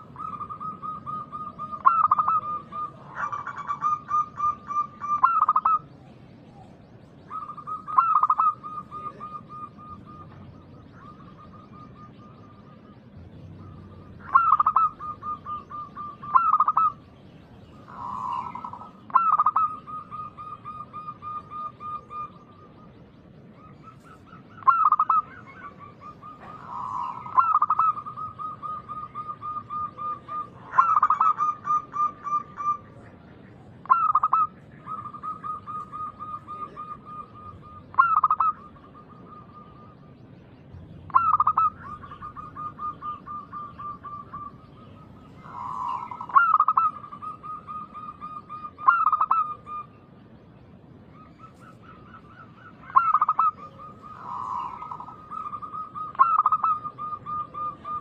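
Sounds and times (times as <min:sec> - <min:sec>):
doves cooing: 0:00.0 - 0:50.4, 0:51.0 - 0:58.0.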